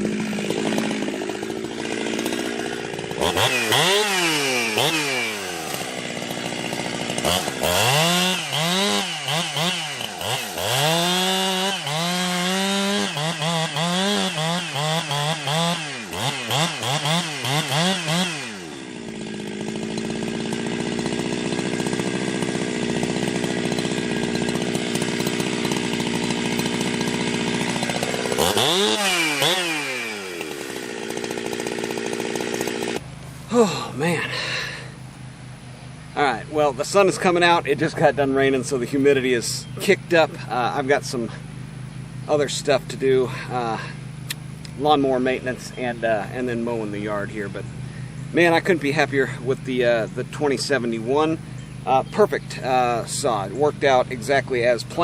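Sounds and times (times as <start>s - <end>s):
chainsaw revving and idling: 0.0s - 55.0s.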